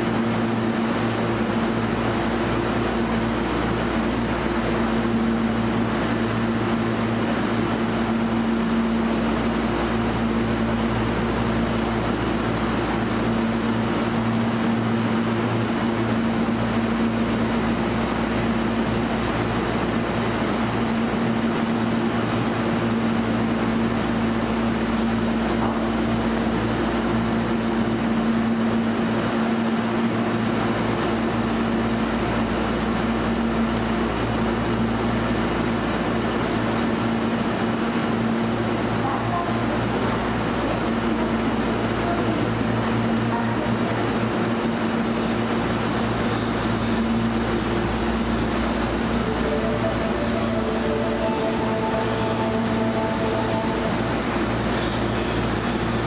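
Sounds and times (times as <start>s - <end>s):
air conditioning hiss: 0.0s - 56.0s
train electrical hum: 0.0s - 56.0s.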